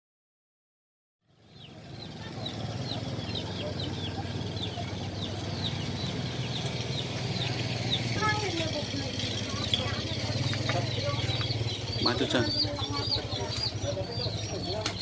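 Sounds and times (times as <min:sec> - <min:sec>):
small birds chirping: 0:01.2 - 0:15.0.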